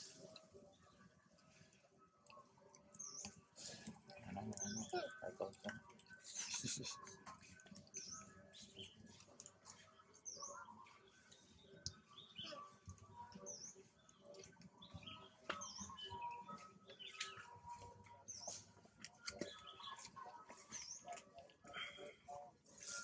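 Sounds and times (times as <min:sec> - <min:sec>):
faint high-pitched chirps: 0:00.0 - 0:23.0.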